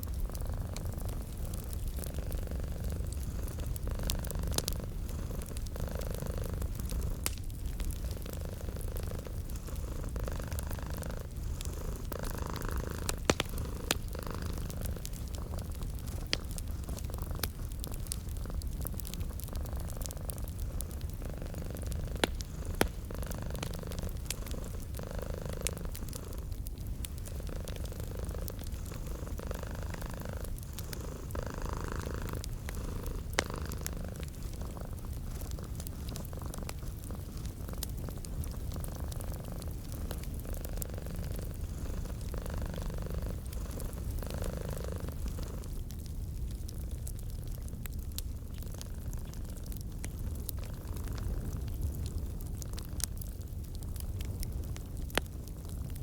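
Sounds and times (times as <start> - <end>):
cat purring: 0.0 - 56.0
wood fire crackles: 0.0 - 56.0.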